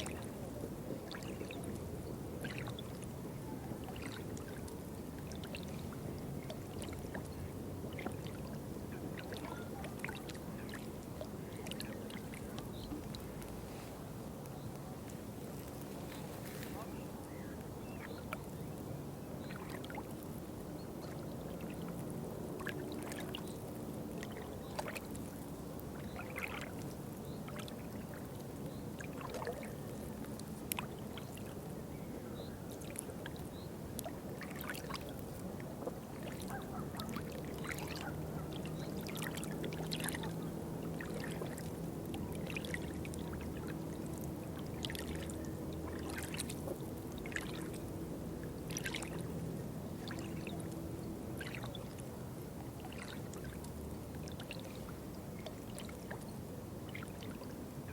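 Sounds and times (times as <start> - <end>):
water drips and splashes: 0.0 - 3.1, 3.7 - 13.8, 18.0 - 31.8, 32.6 - 57.9
water lapping and trickling: 0.0 - 57.9.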